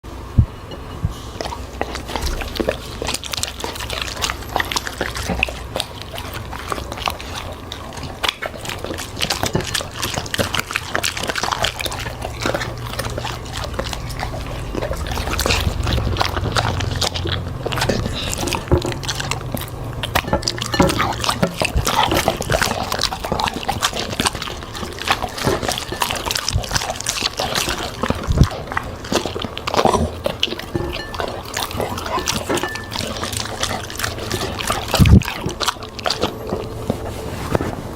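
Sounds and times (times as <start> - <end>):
dog crunching and chewing: 0.0 - 37.9.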